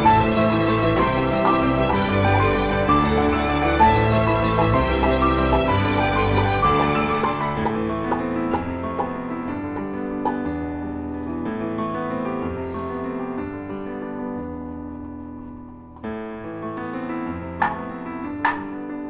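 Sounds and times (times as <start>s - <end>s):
piano chords: 0.0s - 19.0s.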